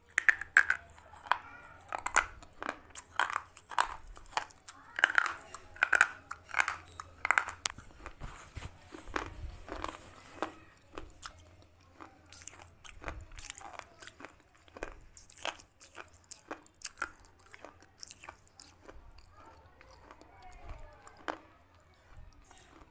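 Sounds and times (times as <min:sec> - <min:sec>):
person chewing crunchy food: 0:00.0 - 0:22.9.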